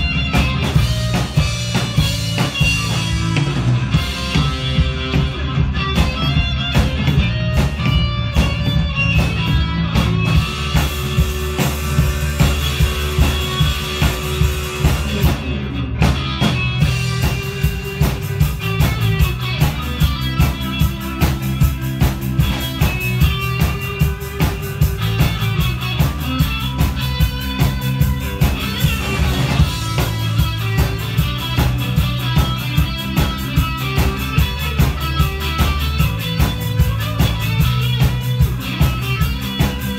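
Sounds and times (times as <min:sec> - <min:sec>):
drum kit beat: 0:00.0 - 0:39.9
electric guitar: 0:00.0 - 0:39.9.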